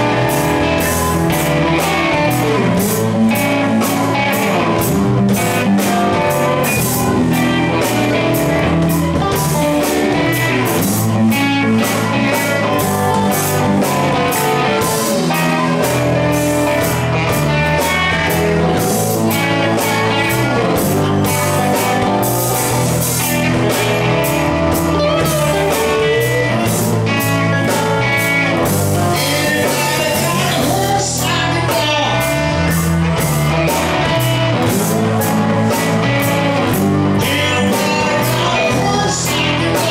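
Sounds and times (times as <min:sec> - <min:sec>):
blues-rock band playing: 0:00.0 - 0:39.9
person singing: 0:00.0 - 0:39.9.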